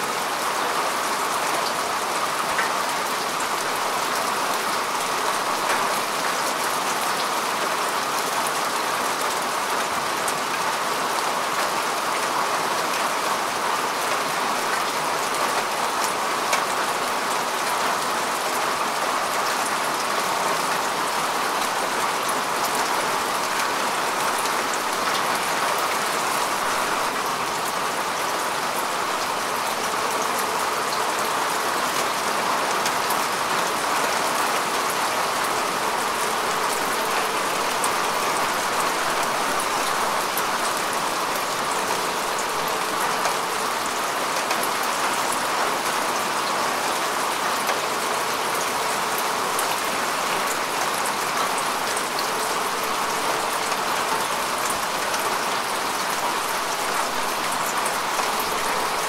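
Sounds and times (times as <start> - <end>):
rain falling on grass: 0.0 - 59.0.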